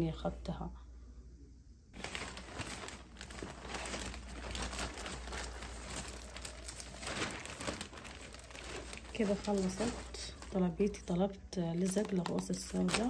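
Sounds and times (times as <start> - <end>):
plastic packaging crinkling: 2.0 - 13.0.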